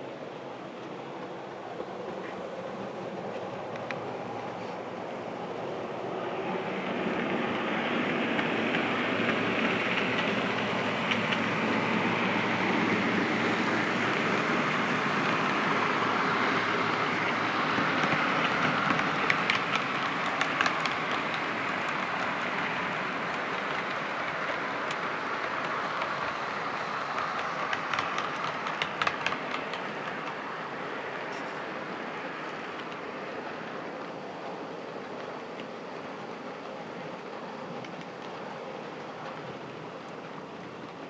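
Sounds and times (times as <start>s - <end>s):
model train running on track: 0.0s - 41.0s.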